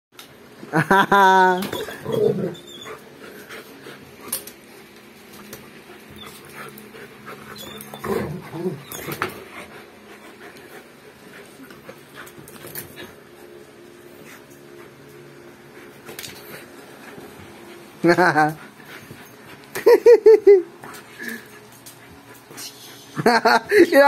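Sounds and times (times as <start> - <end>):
dogs breathing and scuffling: 1.6 - 24.0.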